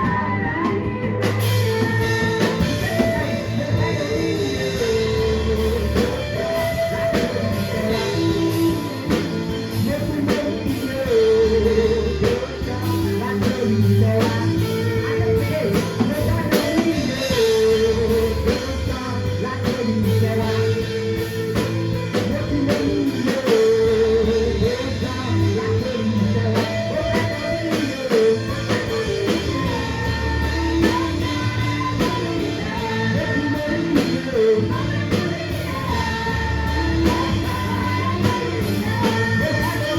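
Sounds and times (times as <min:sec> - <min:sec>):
band playing worship song: 0:00.0 - 0:39.9
drums beating: 0:00.0 - 0:39.9
person singing: 0:00.0 - 0:39.9.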